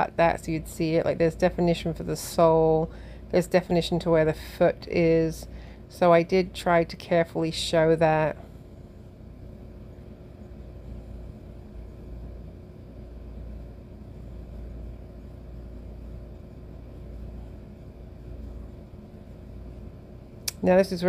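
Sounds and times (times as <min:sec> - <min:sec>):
faint constant hum: 0:00.0 - 0:21.0
low background rumble: 0:00.0 - 0:21.0.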